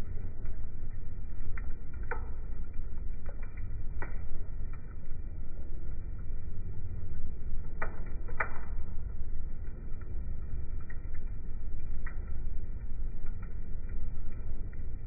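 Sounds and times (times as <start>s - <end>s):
fire crackles: 0.0s - 15.0s
fire rumbling: 0.0s - 15.0s.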